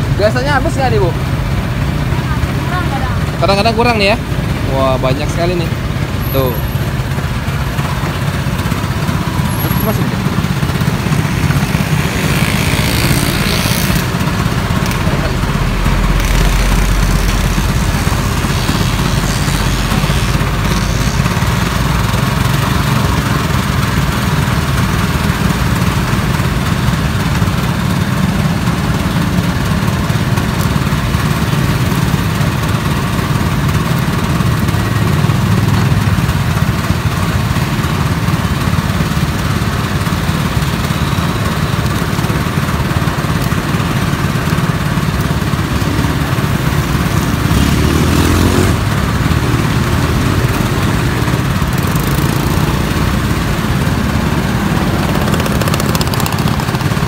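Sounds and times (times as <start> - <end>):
sugarcane juicer crushing cane: 7.7 - 38.2, 40.4 - 57.0.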